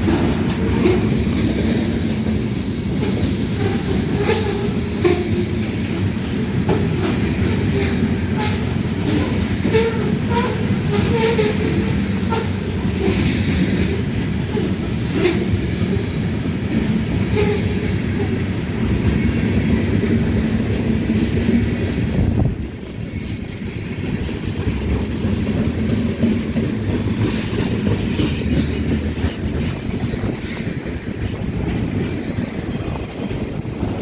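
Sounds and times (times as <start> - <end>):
train wheels rumbling on rail: 0.0 - 34.0
wheels clicking over rail joints: 0.0 - 34.0.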